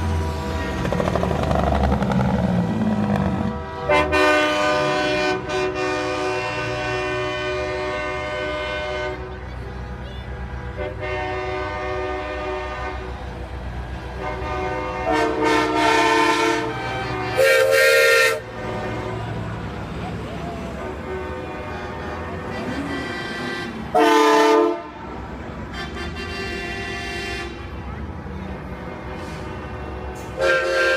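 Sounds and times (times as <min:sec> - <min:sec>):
truck engines rumbling: 0:00.0 - 0:30.9
truck horn blasts: 0:03.0 - 0:13.4, 0:14.0 - 0:19.4, 0:20.7 - 0:27.8, 0:28.7 - 0:30.9.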